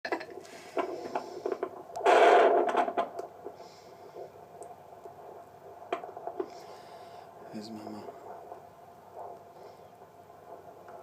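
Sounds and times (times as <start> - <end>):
doppler speaker crackling static: 0.0 - 11.0.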